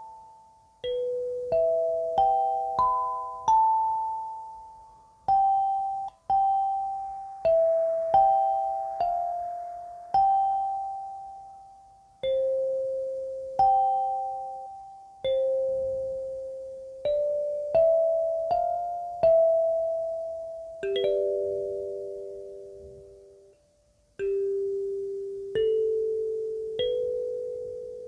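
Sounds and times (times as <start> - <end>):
kalimba plucked melody: 0.0 - 23.3, 24.2 - 28.0.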